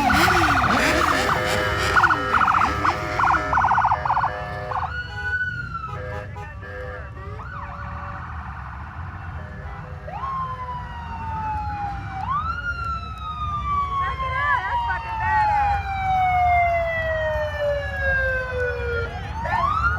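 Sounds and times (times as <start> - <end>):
siren yelp: 0.0 - 19.9
wailing sirens: 0.0 - 19.9.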